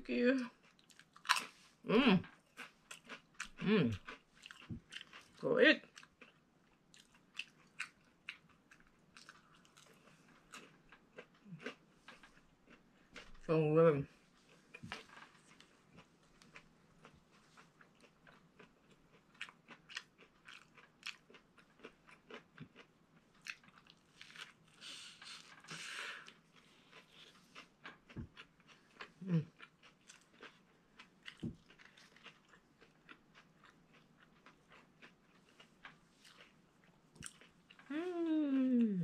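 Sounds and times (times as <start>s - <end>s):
person chewing food: 0.5s - 13.5s, 14.2s - 38.6s.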